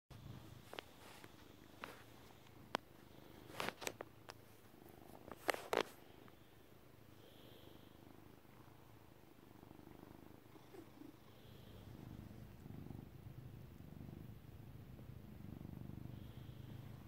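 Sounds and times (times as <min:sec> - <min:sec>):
cat purring: 0:00.1 - 0:17.0.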